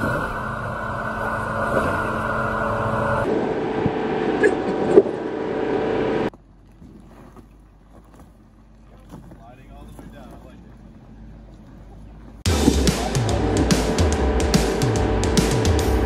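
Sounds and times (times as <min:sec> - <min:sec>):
vehicle engine running: 0:00.0 - 0:06.6, 0:08.1 - 0:16.0.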